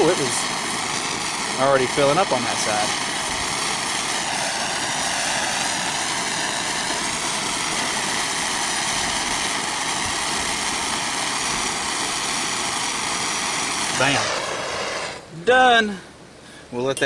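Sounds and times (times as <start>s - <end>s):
propane torch hissing: 0.0s - 16.7s.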